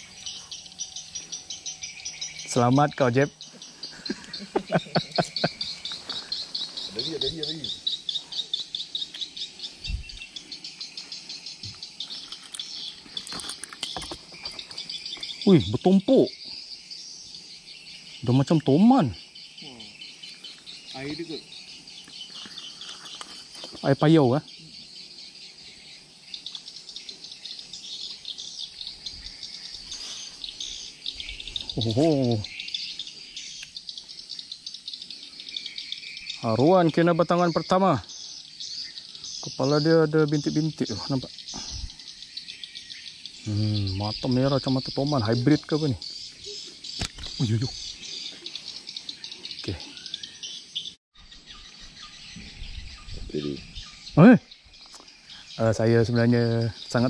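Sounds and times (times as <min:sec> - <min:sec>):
insects chirping: 0:00.0 - 0:57.0.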